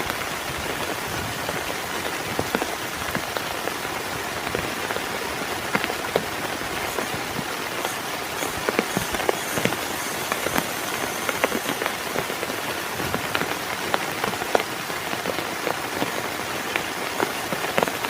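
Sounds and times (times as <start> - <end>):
heavy rain falling: 0.0 - 18.0
raindrops ticking nearby: 0.0 - 18.0.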